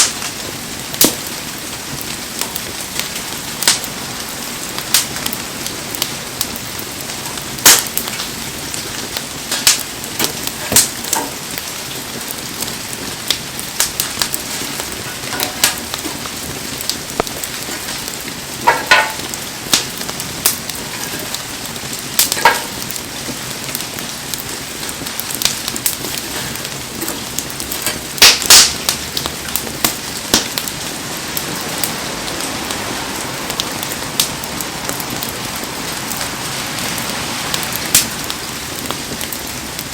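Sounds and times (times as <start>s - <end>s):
fire cracking and popping: 0.0s - 39.9s
heavy rain hissing: 0.0s - 39.9s.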